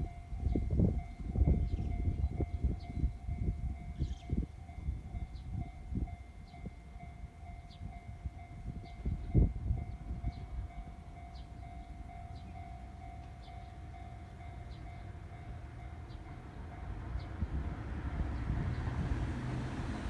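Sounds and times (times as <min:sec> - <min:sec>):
crossing warning bell ringing: 0:00.0 - 0:18.6.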